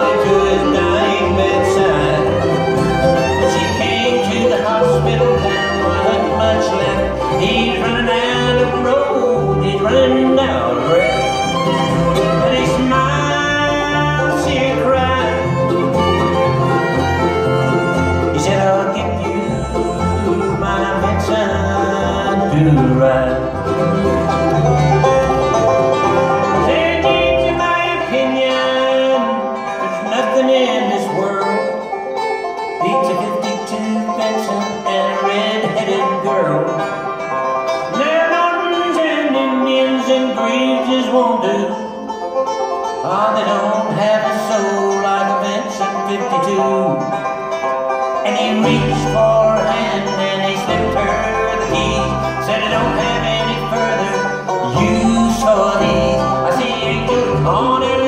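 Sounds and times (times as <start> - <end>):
acoustic guitar: 0.0 - 58.0
banjo: 0.0 - 58.0
fiddle: 0.0 - 58.0
mandolin: 0.0 - 58.0
upright bass: 0.0 - 58.0.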